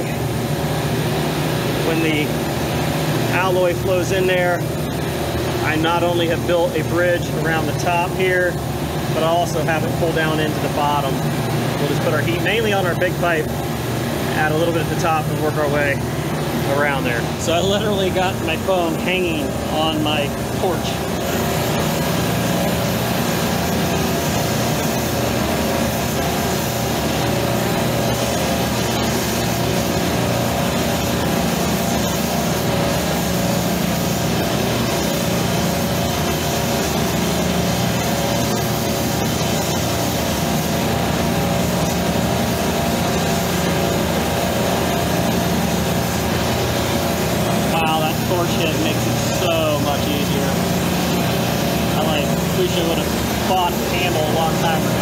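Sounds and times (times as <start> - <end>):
refrigeration compressors humming: 0.0 - 55.0
torch flame hissing: 11.0 - 55.0.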